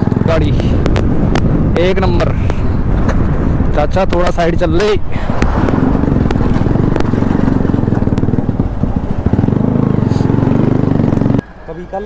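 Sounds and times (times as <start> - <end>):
motorcycle engine running: 0.0 - 3.7, 5.4 - 12.0.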